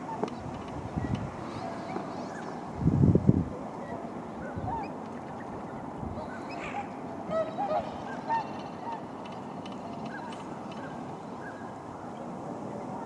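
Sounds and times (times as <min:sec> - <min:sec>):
swans calling: 0:01.3 - 0:02.7, 0:03.6 - 0:13.0.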